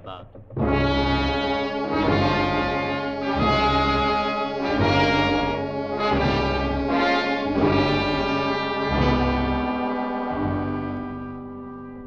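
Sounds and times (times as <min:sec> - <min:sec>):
deep low notes: 0:00.0 - 0:12.0
brass orchestral chords: 0:00.6 - 0:12.0.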